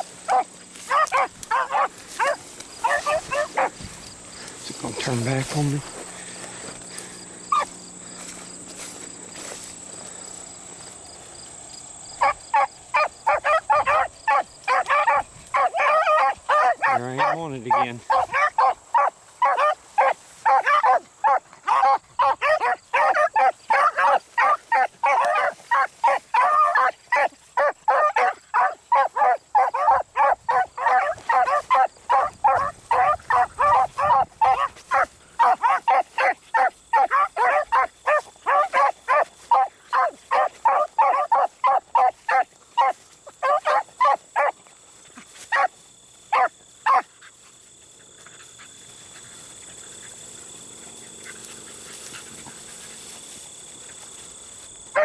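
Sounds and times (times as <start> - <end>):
dogs baying and barking: 0.0 - 11.2, 12.1 - 55.0.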